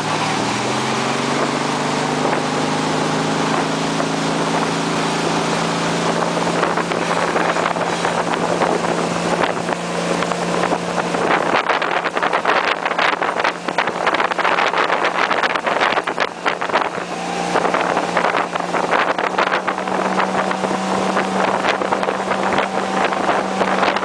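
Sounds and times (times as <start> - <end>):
motorboat engine running: 0.0 - 24.0
water rushing from wake: 0.0 - 24.0
wind buffeting microphone: 0.0 - 24.0.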